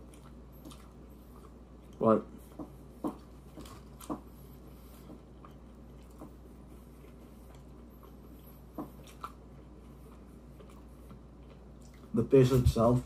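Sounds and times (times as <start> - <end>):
person chewing food: 0.0 - 12.2
low steady hum: 0.0 - 13.0.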